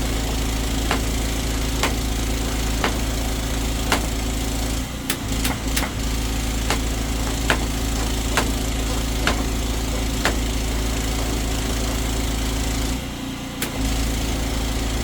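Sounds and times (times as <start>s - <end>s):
drain jetter engine running: 0.0s - 15.0s.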